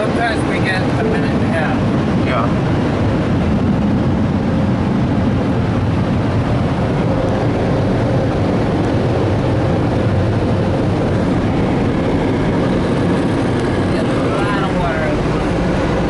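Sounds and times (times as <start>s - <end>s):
blower dryers roaring: 0.0s - 16.0s.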